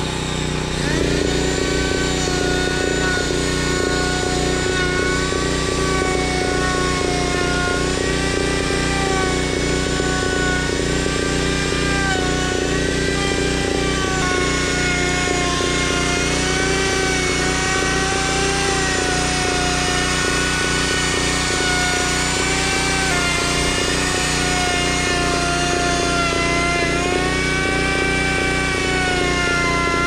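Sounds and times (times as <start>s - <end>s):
power tool motor whine: 0.0s - 30.0s.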